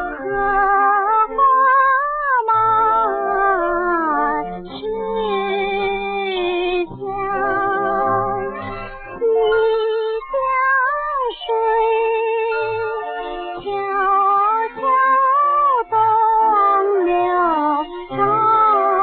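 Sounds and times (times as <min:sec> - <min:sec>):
woman singing with vibrato: 0:00.0 - 0:19.0.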